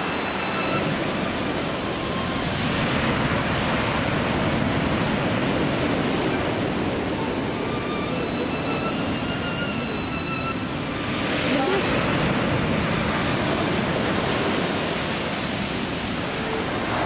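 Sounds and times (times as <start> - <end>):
sea waves washing ashore: 0.0 - 17.0.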